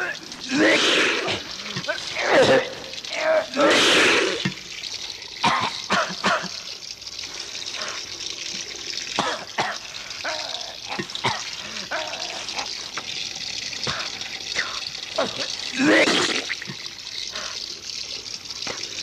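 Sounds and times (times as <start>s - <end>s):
water running and splashing: 0.0s - 19.0s.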